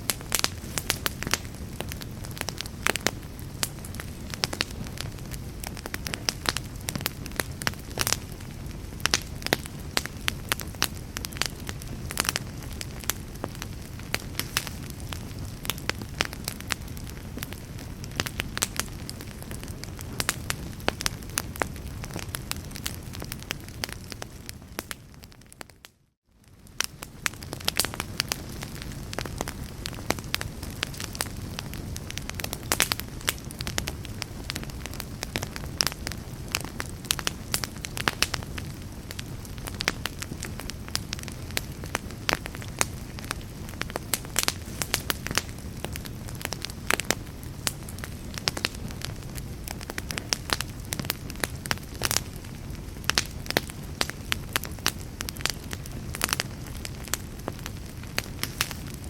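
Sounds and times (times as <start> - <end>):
low rush of flame: 0.0 - 25.6, 26.4 - 59.0
logs crackling and popping: 0.0 - 59.0.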